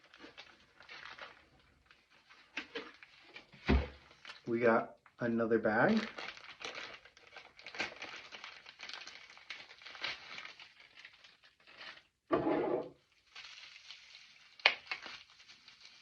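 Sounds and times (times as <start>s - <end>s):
plastic bag crinkling: 0.0s - 4.5s, 5.8s - 12.1s, 13.0s - 16.0s.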